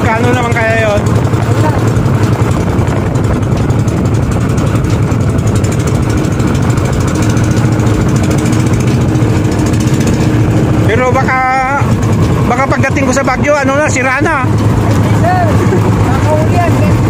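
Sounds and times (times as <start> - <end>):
small boat engine running: 0.0 - 17.0.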